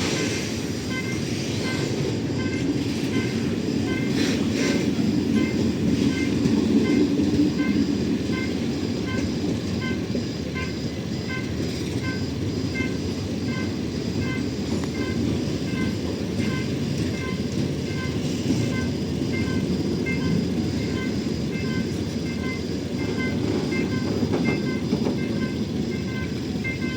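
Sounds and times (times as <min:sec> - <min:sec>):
freight train rumbling past: 0:00.0 - 0:26.9
high ringing tone: 0:00.8 - 0:04.2, 0:05.3 - 0:26.9.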